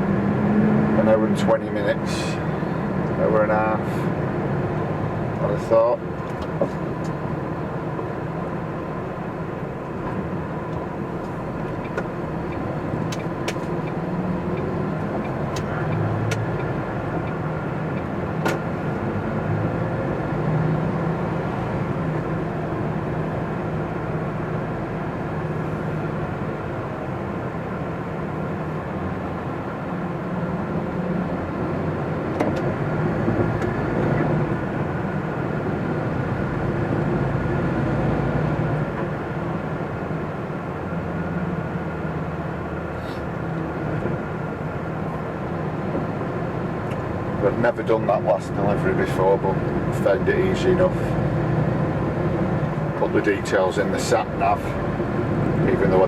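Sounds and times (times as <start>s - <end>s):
lorry diesel engine: 0.0s - 56.0s
road noise: 0.0s - 56.0s.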